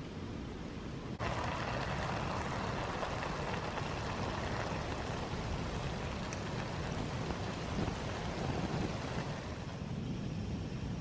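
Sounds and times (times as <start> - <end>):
camping stove burner hissing: 1.2 - 11.0.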